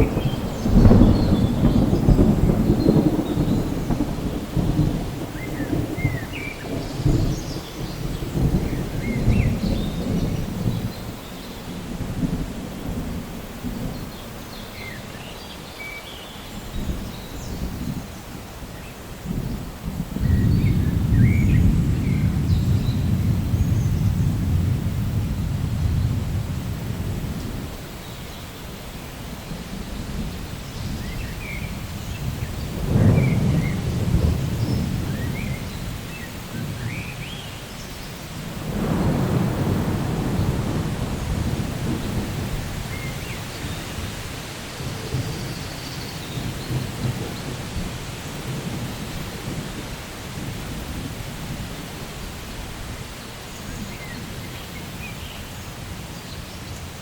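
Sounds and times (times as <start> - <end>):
thunder rolling: 0.0 - 14.2, 19.2 - 28.2, 29.2 - 52.8
steady rain: 0.0 - 57.0.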